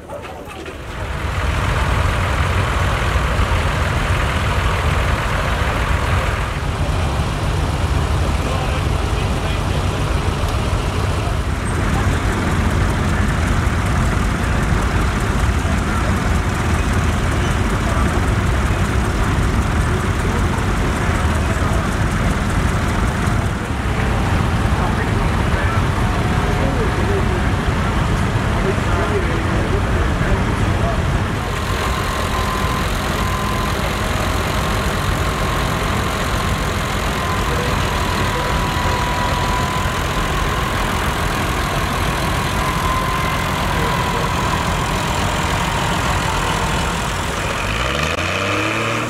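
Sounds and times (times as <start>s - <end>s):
tractor engine idling: 0.0s - 48.9s
people's voices: 0.0s - 49.0s.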